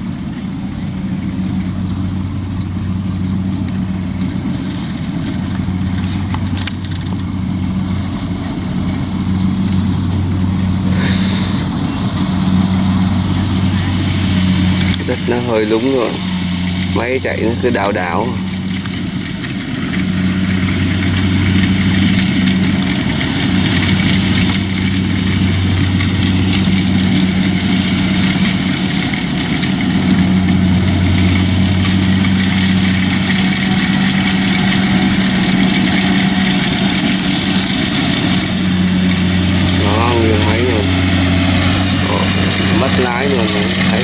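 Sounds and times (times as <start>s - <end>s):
combine harvester running: 0.0s - 44.0s.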